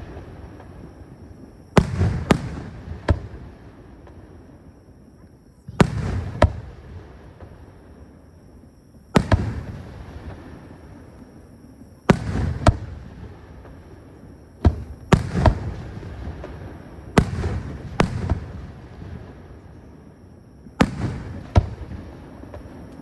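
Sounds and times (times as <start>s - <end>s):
fireworks bangs with echo: 0.0s - 4.5s, 5.7s - 7.9s, 9.2s - 11.0s, 12.1s - 20.2s, 20.8s - 23.0s.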